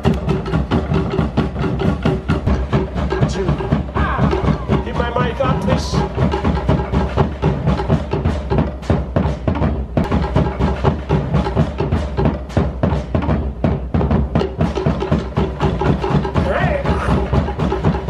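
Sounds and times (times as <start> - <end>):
rapid driving drumming: 0.0 - 18.0.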